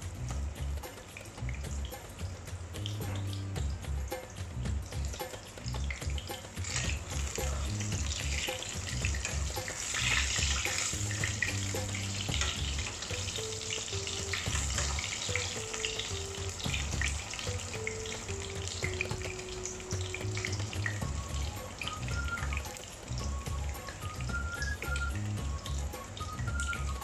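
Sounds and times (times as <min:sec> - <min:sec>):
food sizzling in frying pan: 0:00.0 - 0:27.0.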